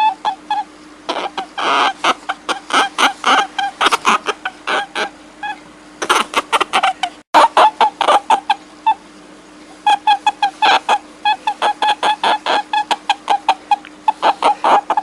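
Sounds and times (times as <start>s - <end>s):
faint steady hum: 0.0s - 15.0s
short pitched animal calls: 0.0s - 15.0s.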